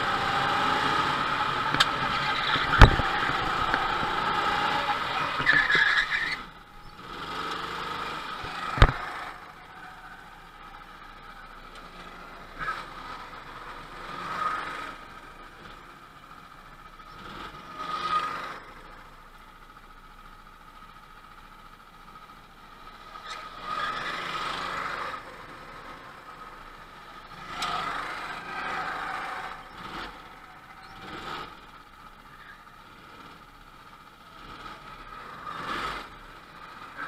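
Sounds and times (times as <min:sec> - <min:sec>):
distant karts passing: 0:00.0 - 0:37.0
go-kart engine running: 0:00.0 - 0:37.0.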